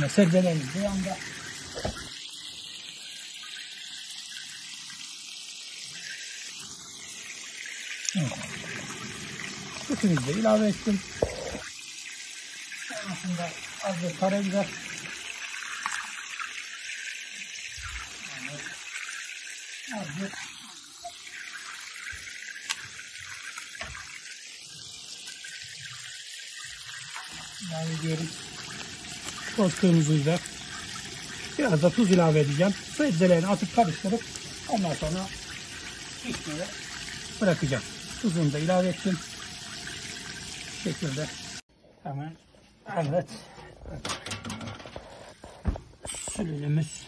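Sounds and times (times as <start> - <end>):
food sizzling in a pan: 0.0 - 41.7
sauce simmering with hiss: 0.0 - 41.7.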